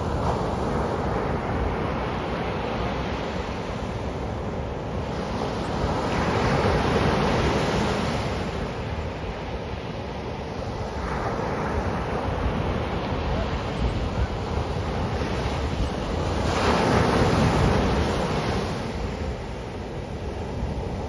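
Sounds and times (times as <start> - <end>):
waves breaking on sandy beach: 0.0 - 21.0.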